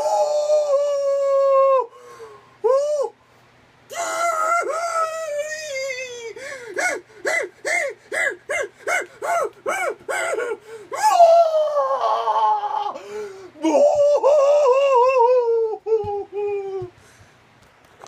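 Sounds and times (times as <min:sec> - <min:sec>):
man wailing and sobbing: 0:00.0 - 0:02.0, 0:02.6 - 0:03.2, 0:03.9 - 0:17.0.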